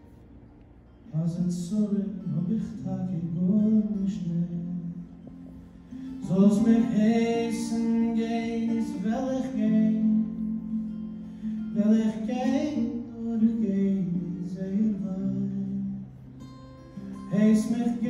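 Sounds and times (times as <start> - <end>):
acoustic guitar: 0.0 - 18.0.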